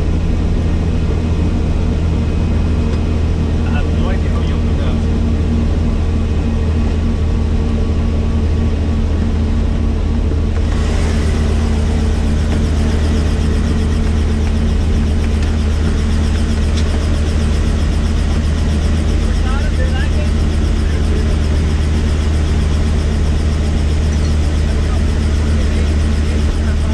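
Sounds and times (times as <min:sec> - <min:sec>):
helicopter droning: 0:00.0 - 0:26.9.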